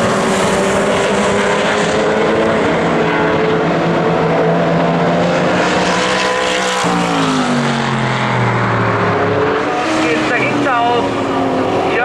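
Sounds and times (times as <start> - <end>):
racing car engines running hard: 0.0 - 12.0.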